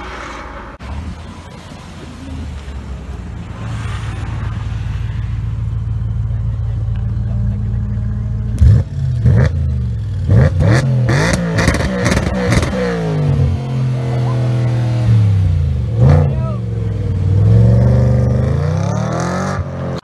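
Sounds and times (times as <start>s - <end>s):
car engine rumbling and revving: 0.0s - 20.0s.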